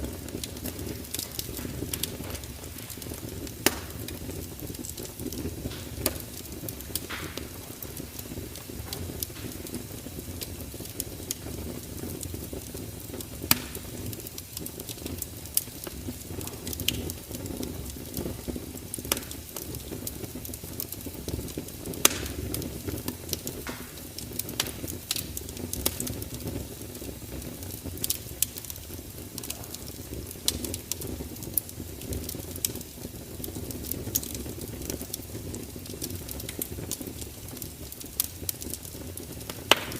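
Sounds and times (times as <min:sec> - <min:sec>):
fire pops and snaps: 0:00.0 - 0:39.9
wood fire rumble and hiss: 0:00.0 - 0:39.9.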